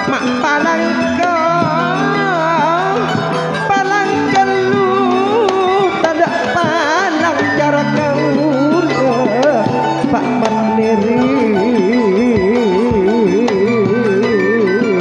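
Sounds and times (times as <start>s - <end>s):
ornamented traditional melody: 0.0s - 15.0s.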